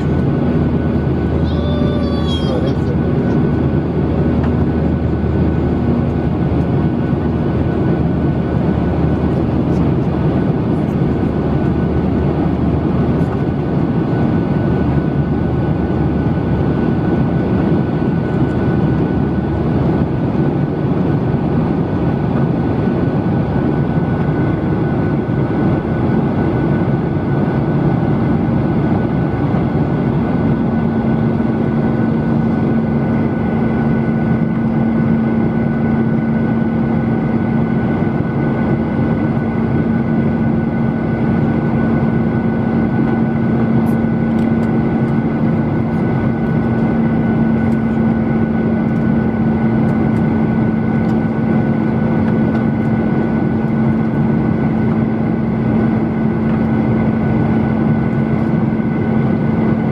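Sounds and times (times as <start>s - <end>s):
jet engine and airflow roar: 0.0s - 59.9s.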